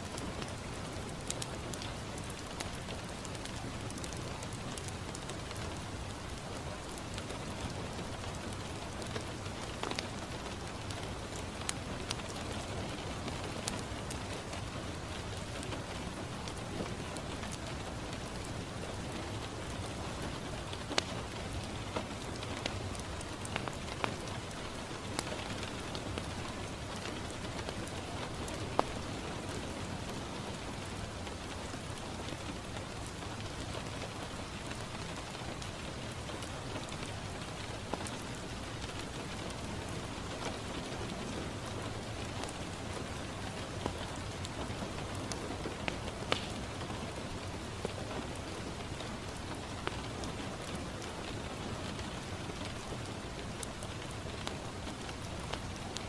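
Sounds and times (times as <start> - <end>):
rain on a window: 0.0 - 56.0
wood fire crackling: 0.0 - 56.0.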